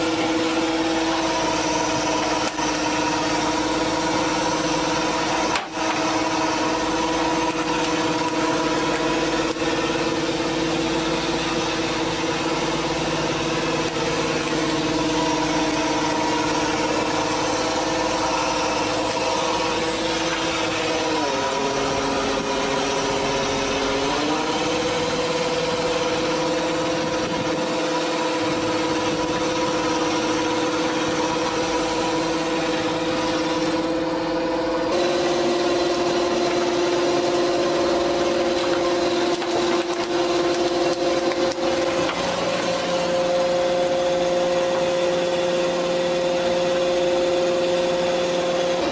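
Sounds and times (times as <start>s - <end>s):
boat motor humming: 0.0s - 48.9s.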